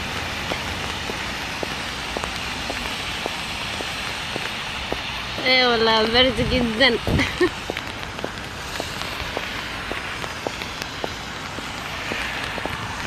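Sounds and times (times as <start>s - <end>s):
footsteps on wet pavement: 0.0s - 13.0s
rain falling: 0.0s - 13.0s.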